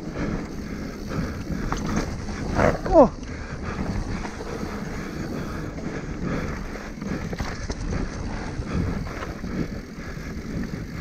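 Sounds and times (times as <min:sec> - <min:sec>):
bike knocking and rattling: 0:00.0 - 0:11.0
tyres rushing on dirt: 0:00.0 - 0:11.0
wind buffeting microphone: 0:00.0 - 0:11.0.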